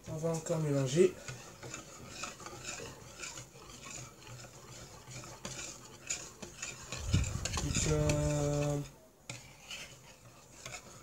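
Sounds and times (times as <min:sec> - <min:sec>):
whisk stirring batter in bowl: 0:00.0 - 0:11.0.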